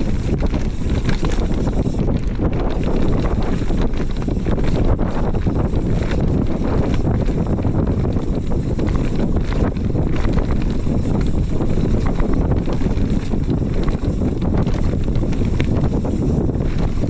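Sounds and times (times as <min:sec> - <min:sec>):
bike knocks and rattles: 0:00.0 - 0:17.0
bike tyres rumbling over ground: 0:00.0 - 0:17.0
wind buffeting microphone: 0:00.0 - 0:17.0.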